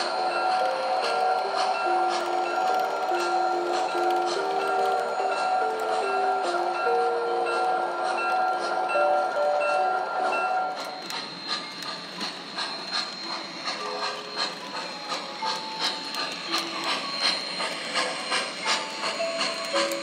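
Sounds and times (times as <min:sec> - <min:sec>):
model train wheels clicking: 0:00.0 - 0:20.0.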